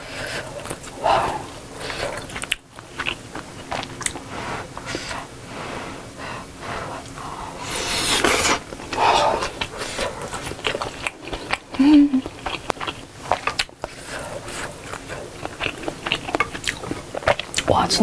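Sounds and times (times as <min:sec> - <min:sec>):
wet chewing and mouth clicks: 0:00.0 - 0:05.2, 0:07.8 - 0:18.0.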